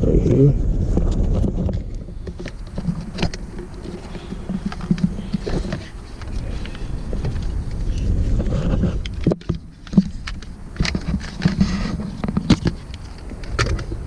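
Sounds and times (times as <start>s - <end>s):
low rumble of handling noise: 0.0s - 14.0s.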